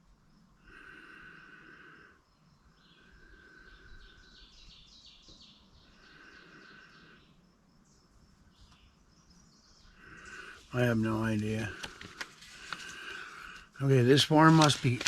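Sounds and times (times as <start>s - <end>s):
faint birdsong: 0.0s - 15.0s
insects calling: 0.0s - 15.0s.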